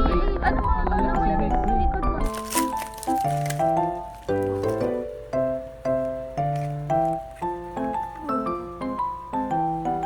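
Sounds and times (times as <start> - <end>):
gentle keyboard melody: 0.0 - 10.0.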